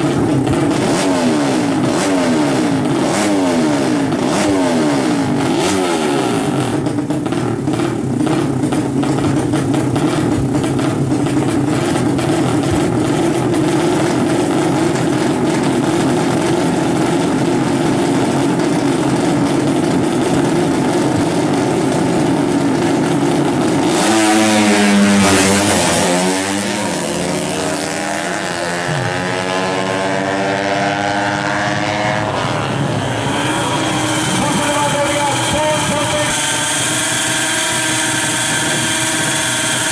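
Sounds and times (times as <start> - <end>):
motorcycle engines revving: 0.0 - 39.9
motorcycles accelerating through gears: 0.0 - 39.9.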